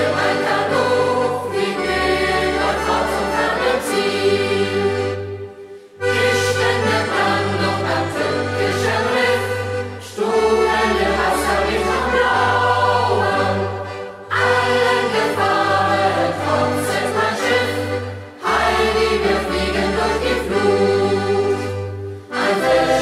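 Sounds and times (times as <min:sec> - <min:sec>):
youth choir singing: 0:00.0 - 0:05.2, 0:06.0 - 0:23.0.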